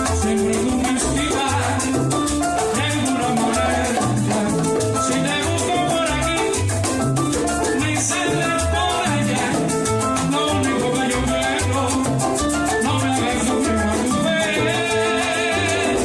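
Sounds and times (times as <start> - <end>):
repeating bass line: 0.0 - 16.0
salsa band music: 0.0 - 16.0.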